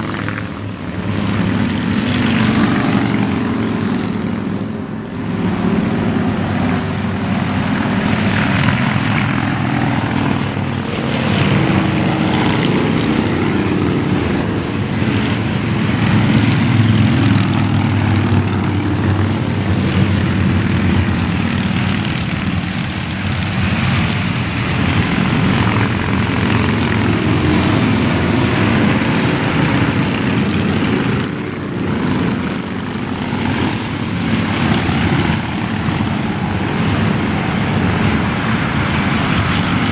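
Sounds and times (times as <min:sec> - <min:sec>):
motorcycle engines droning: 0:00.0 - 0:39.9.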